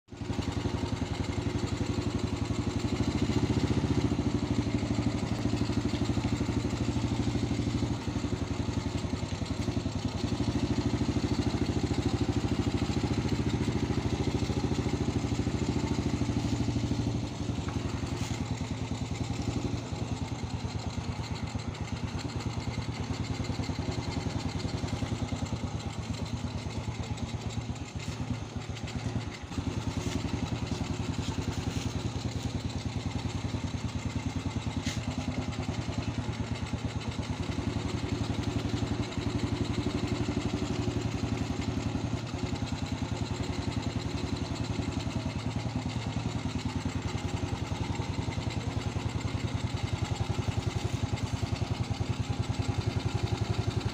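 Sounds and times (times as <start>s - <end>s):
motorcycle engine idling: 0.0s - 53.9s.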